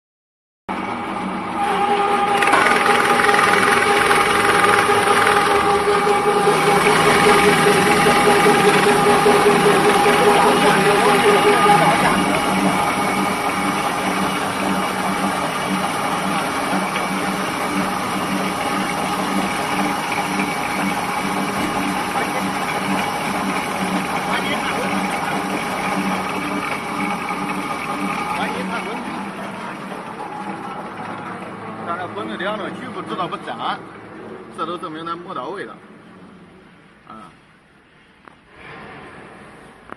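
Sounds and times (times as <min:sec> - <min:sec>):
granulator machine hum and whine: 0:00.7 - 0:39.9.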